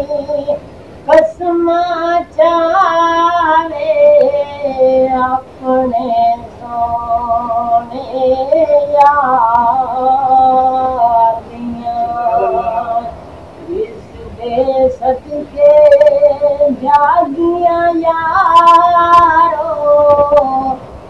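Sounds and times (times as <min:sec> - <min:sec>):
man singing unaccompanied: 0:00.0 - 0:20.8.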